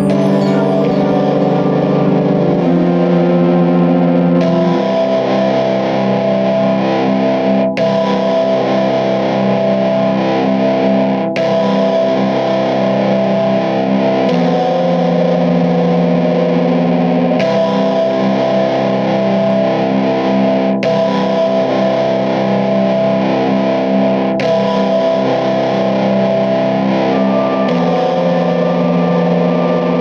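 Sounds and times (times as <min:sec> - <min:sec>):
distorted electric guitar chords: 0:00.0 - 0:30.0.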